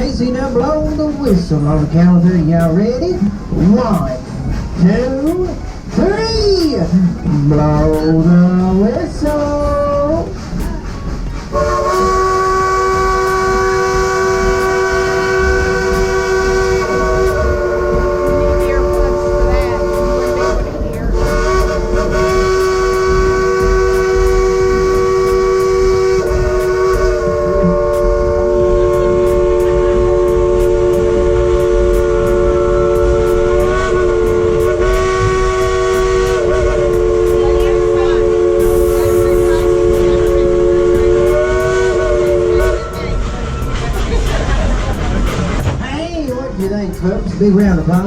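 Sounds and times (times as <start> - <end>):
steam locomotive whistle chord: 0.0 - 44.9
low rumble of moving train: 0.0 - 48.0.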